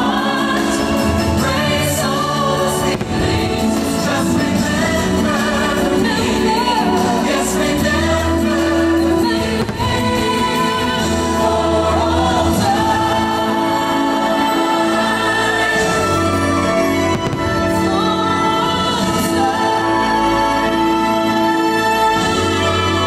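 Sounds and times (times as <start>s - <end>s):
music with choir singing: 0.0s - 23.0s.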